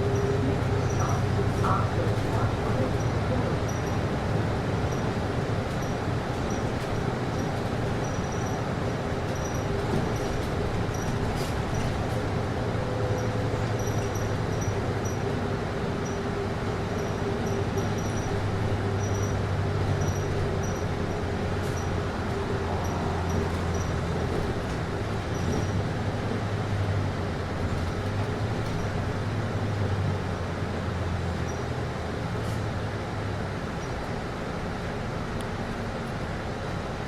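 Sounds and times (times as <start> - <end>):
bus air conditioning whooshing hum: 0.0 - 37.0
low drone of running bus: 0.0 - 37.0.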